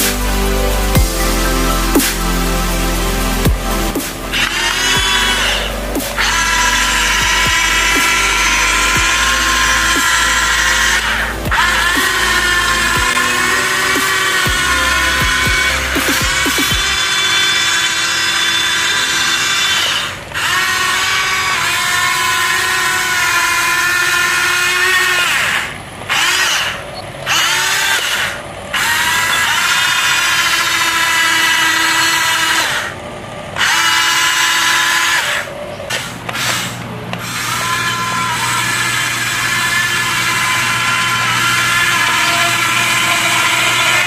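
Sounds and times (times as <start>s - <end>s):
electric motors whining: 2.6s - 44.0s.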